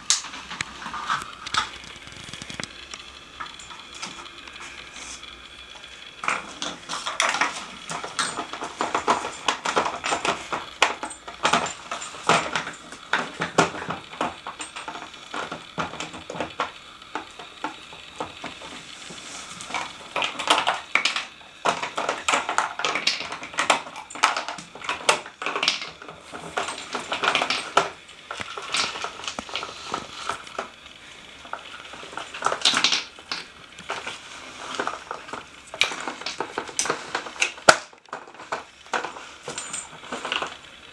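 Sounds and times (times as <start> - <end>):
plastic pieces clattering on wood floor: 0.0 - 5.2, 6.2 - 40.9.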